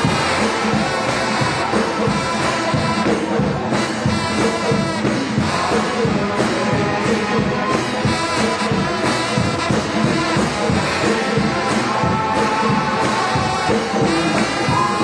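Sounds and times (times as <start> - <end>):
sousaphone bass: 0.0 - 15.0
trombones playing a hymn: 0.0 - 15.0.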